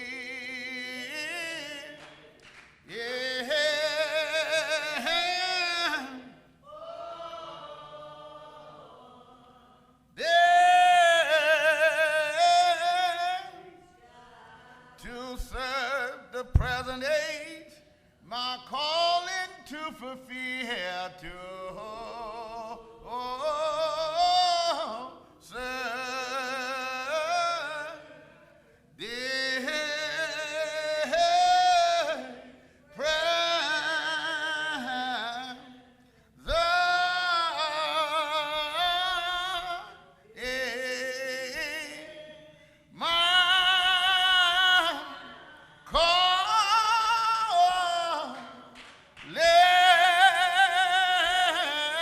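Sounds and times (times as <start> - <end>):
person singing with vibrato: 2.9 - 52.0.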